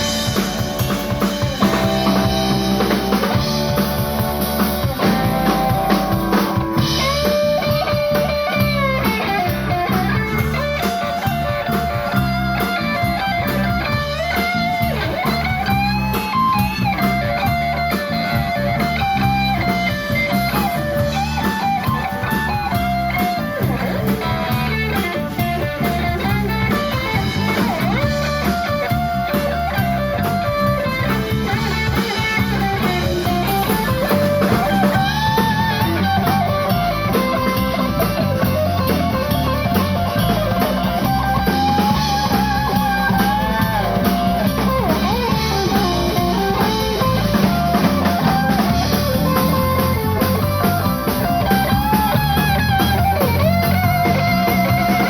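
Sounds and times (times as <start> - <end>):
bass: 0.0 - 55.0
drum kit beat: 0.0 - 55.0
electric guitar lead: 0.0 - 55.0.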